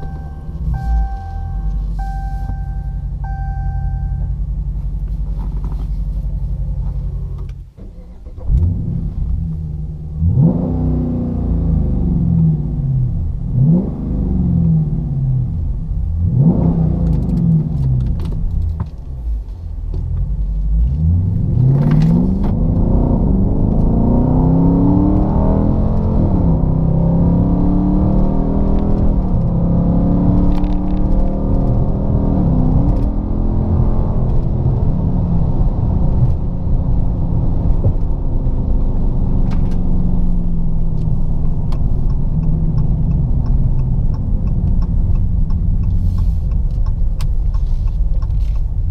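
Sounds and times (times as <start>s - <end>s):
car engine with deep exhaust note: 0.0s - 48.9s.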